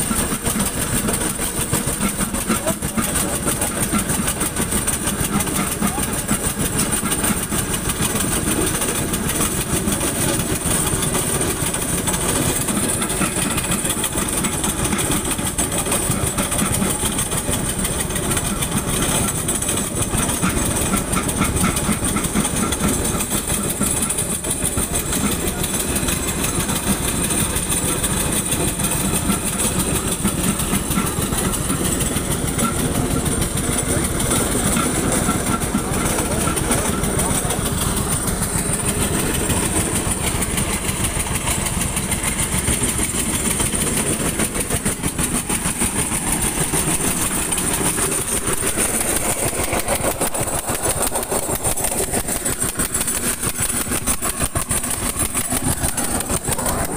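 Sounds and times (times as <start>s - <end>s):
heavy engine rumble: 0.0s - 56.9s.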